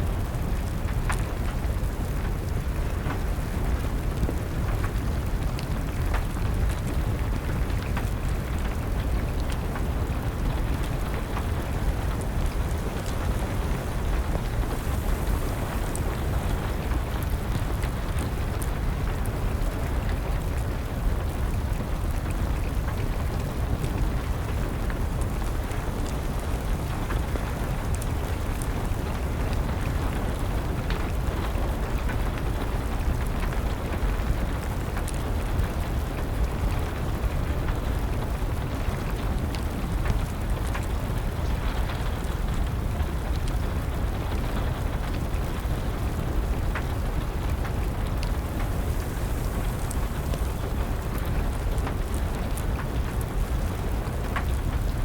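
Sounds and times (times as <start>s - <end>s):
steady rain: 0.0s - 55.0s
wood fire crackling and popping: 0.0s - 55.0s.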